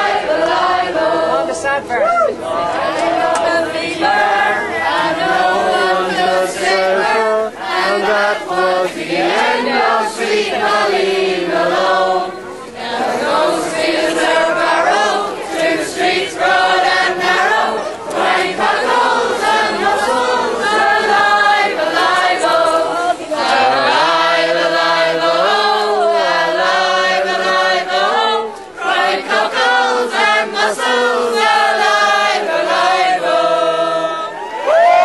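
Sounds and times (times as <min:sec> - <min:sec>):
crowd singing in unison: 0:00.0 - 0:35.0.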